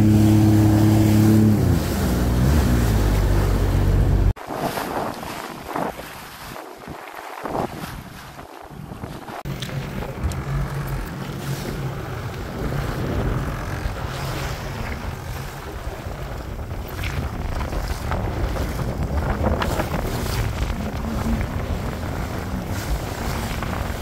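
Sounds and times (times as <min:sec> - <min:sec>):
jet ski engine running: 0:00.0 - 0:05.7, 0:07.7 - 0:24.0
water and waves washing: 0:00.0 - 0:24.0
wind buffeting microphone: 0:00.0 - 0:24.0.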